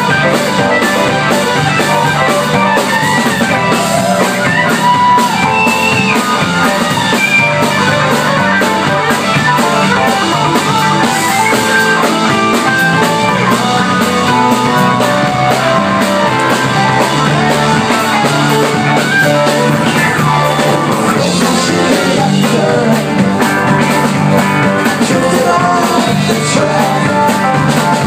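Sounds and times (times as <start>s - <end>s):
bass line: 0.0s - 28.0s
drum kit beat: 0.0s - 28.0s
electric guitars: 0.0s - 28.0s.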